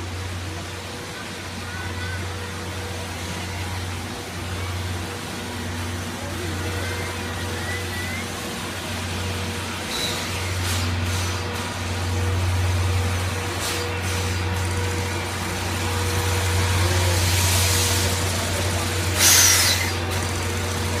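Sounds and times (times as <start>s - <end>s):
steam hissing: 0.0s - 21.0s
steam locomotive rolling slowly: 0.0s - 21.0s.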